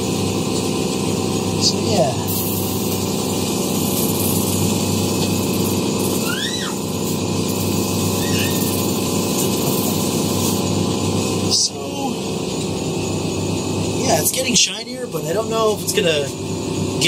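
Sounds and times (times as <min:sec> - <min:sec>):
shoe-polishing machine running: 0:00.0 - 0:17.0.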